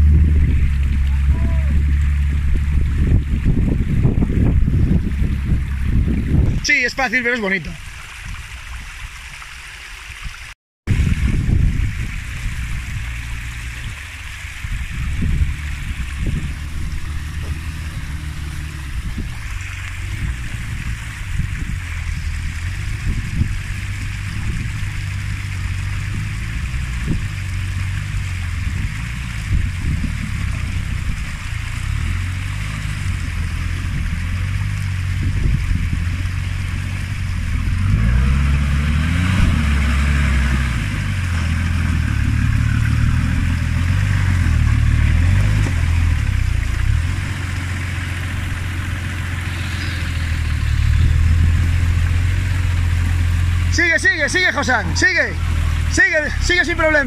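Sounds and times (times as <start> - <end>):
off-road engine at low revs: 0.0 - 7.8, 10.9 - 57.0.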